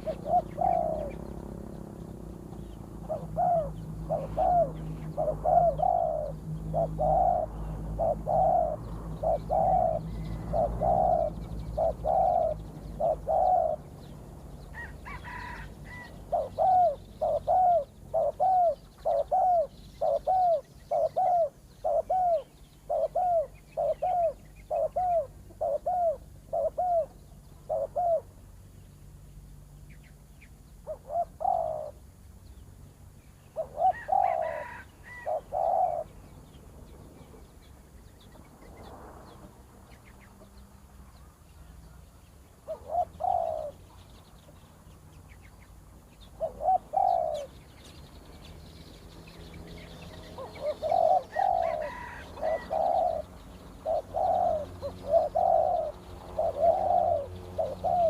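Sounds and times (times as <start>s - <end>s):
doves cooing: 0.0s - 28.5s, 30.8s - 32.1s, 33.5s - 37.5s, 41.6s - 44.2s, 46.2s - 48.0s, 48.8s - 58.0s
small birds chirping: 0.0s - 58.0s.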